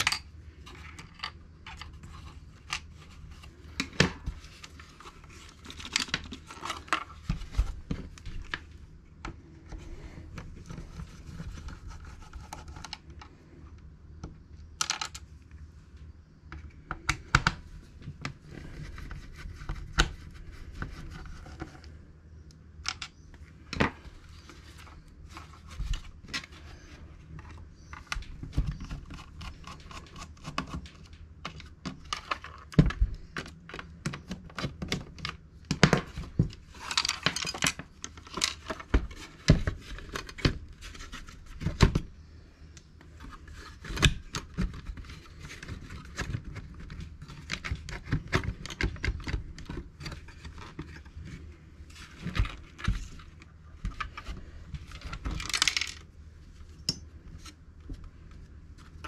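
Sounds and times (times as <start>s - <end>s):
hands handling plastic radio parts: 0.0s - 59.0s.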